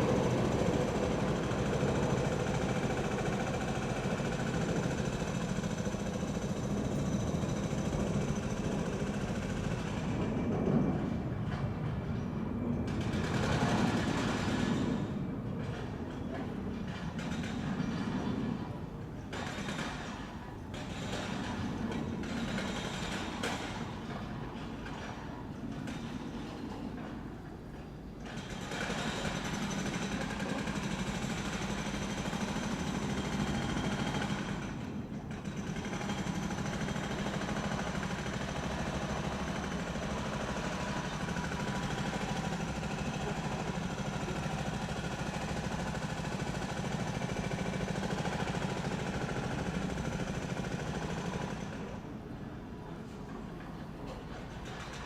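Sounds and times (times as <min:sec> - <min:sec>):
construction machinery hammering: 0:00.0 - 0:11.9, 0:12.8 - 0:55.0.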